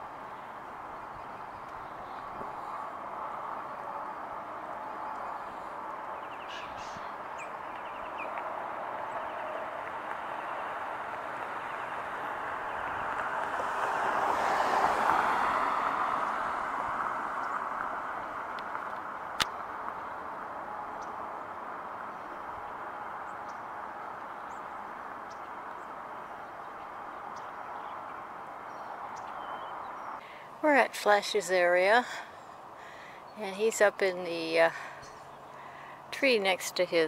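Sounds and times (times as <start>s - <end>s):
car passing: 0.0s - 37.0s
traffic hum: 0.0s - 37.0s.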